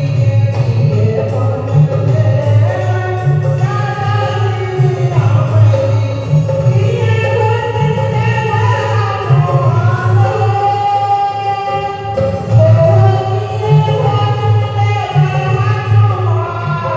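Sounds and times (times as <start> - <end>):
drum accompaniment: 0.0 - 16.9
woman singing devotional song: 0.0 - 16.9.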